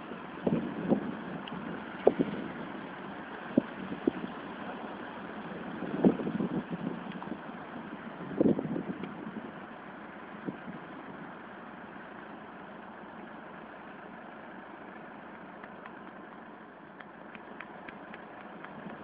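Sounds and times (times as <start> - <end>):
van engine idling: 0.0 - 19.0.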